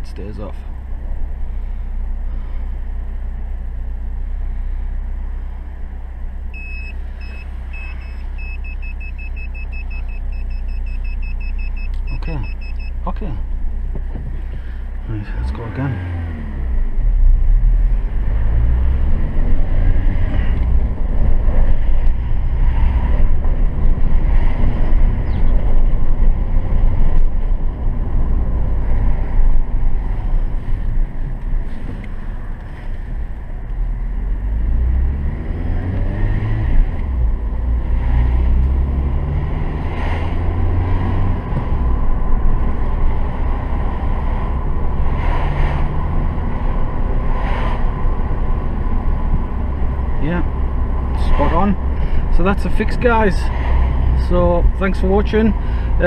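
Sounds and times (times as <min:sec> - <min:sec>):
car engine accelerating: 0:00.0 - 0:56.0
tyres rumbling on road: 0:00.0 - 0:56.0.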